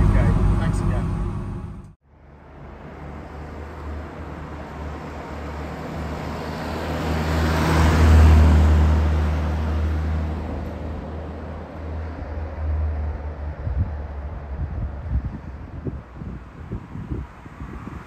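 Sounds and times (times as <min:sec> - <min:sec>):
car driving past: 0:00.0 - 0:14.6.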